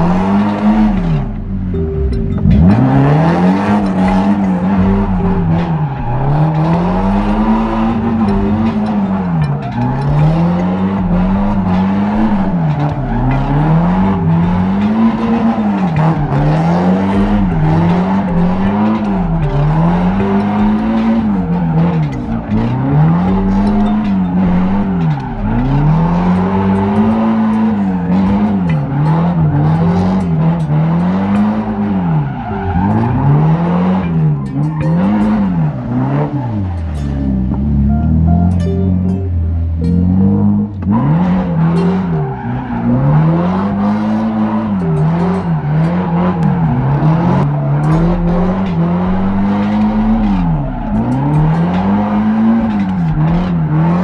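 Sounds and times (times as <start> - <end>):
car engine revving hard: 0.0 - 38.2, 40.0 - 54.0.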